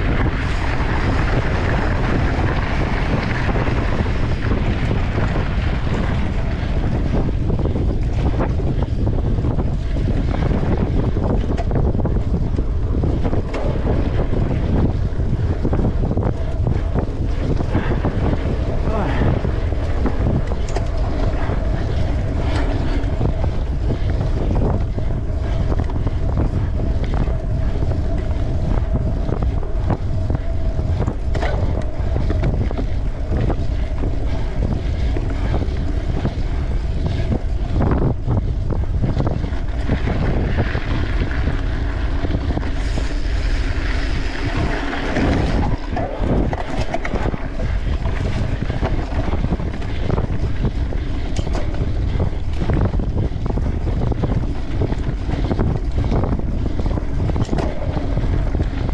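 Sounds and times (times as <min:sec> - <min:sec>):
bike knocking and rattling: 0:00.0 - 0:58.9
wind on microphone: 0:00.0 - 0:58.9.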